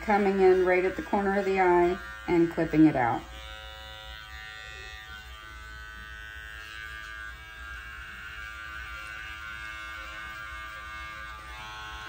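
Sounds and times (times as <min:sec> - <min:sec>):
electric clipper buzzing: 0:00.0 - 0:12.0.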